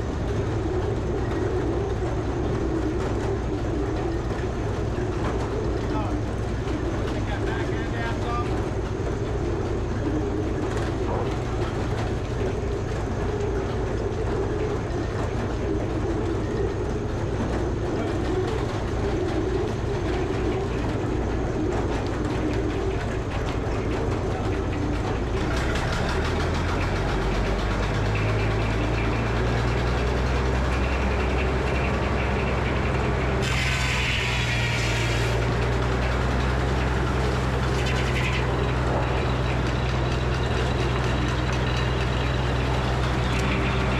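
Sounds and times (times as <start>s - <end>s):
sawmill power unit running: 0.0s - 43.9s.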